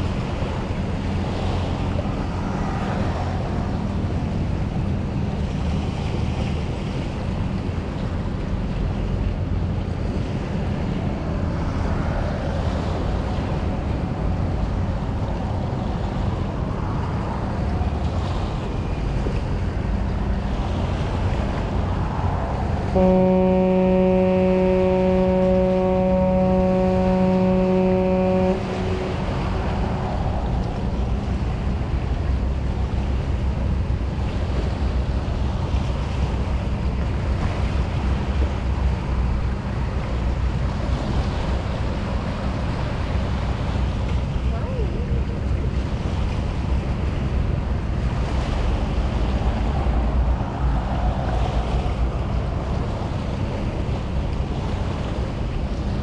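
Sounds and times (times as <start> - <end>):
rush of wind and water: 0.0 - 56.0
ship's horn blast: 0.0 - 56.0.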